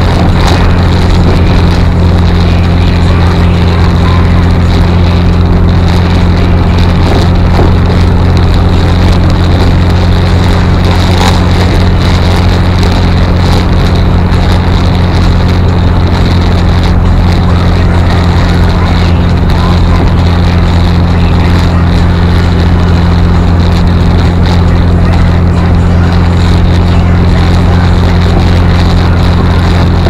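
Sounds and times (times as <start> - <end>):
car engine running steadily: 0.0 - 30.0.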